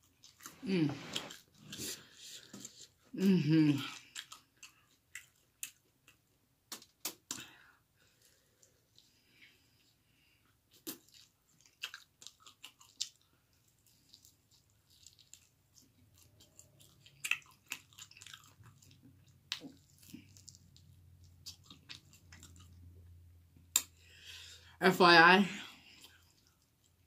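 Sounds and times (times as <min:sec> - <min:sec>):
person chewing and crunching: 0:00.0 - 0:24.8, 0:25.6 - 0:27.0.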